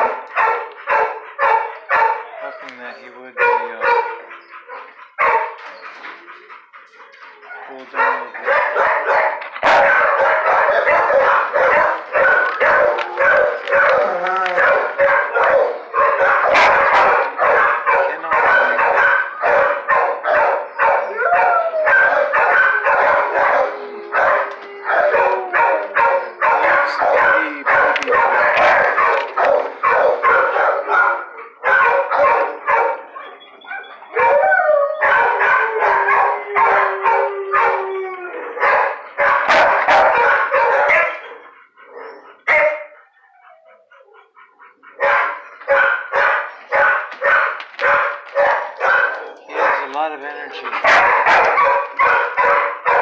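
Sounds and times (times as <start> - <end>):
dogs barking and howling: 0.0 - 53.0.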